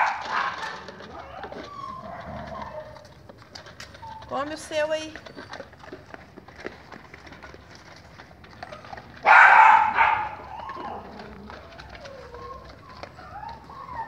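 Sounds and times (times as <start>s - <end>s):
dog snarling: 0.0s - 4.5s, 5.2s - 14.0s.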